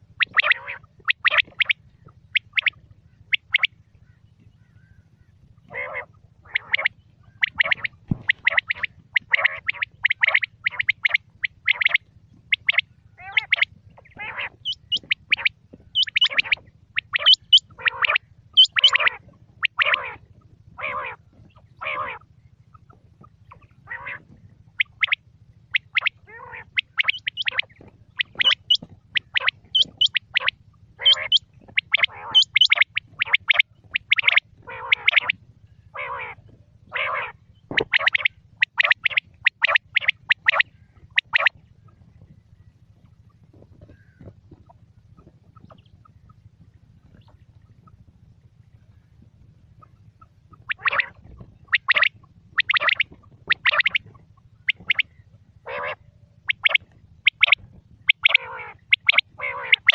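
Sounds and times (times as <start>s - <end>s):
faint low hum: 0.0s - 59.9s
quail calling: 0.0s - 59.9s.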